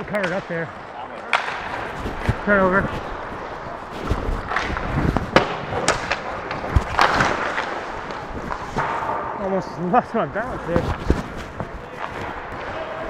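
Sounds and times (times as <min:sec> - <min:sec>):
hockey sticks and puck cracking: 0:00.0 - 0:13.0
skate blades scraping ice: 0:00.2 - 0:09.3, 0:10.4 - 0:13.0.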